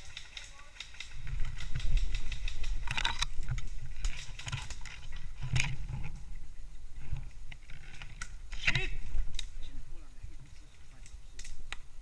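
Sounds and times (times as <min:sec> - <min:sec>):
low rumble of movement: 0:01.0 - 0:12.0.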